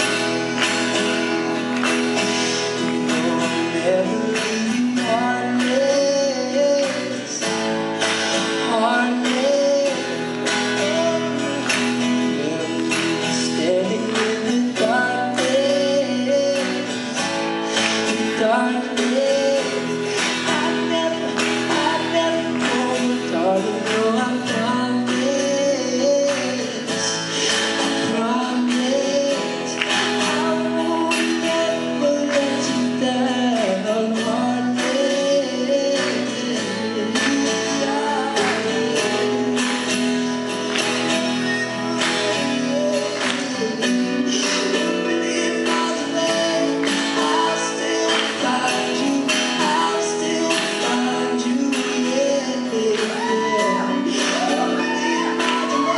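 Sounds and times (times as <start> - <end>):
man singing: 0.0 - 55.9
strummed acoustic guitars: 0.0 - 55.9.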